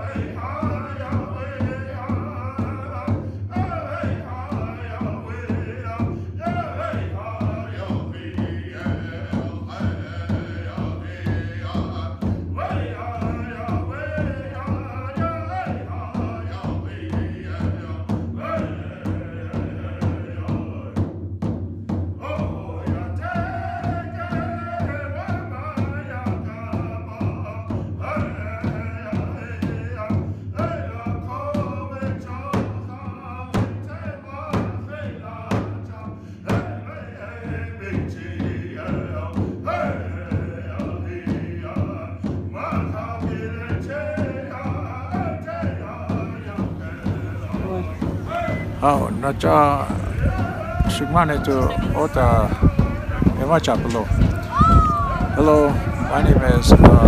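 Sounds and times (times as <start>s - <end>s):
group voices singing a chant: 0.0s - 21.0s, 22.2s - 57.0s
steady drumbeat: 0.0s - 57.0s.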